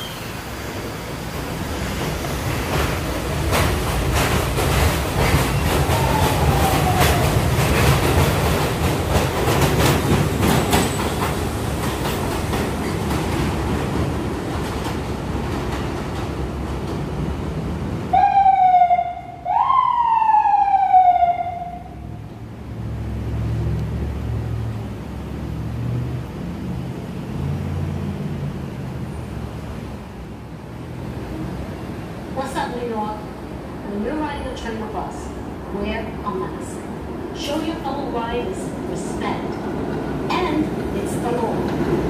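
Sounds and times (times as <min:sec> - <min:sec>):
subway train rumbling: 0:00.0 - 0:42.0.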